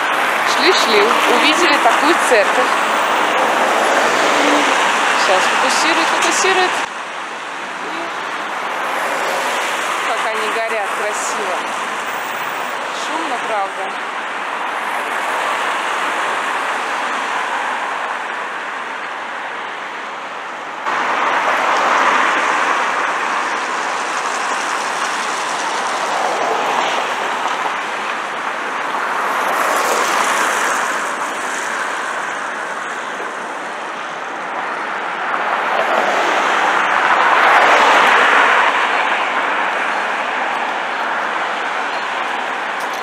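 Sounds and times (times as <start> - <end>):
busy street traffic: 0.0 - 43.0.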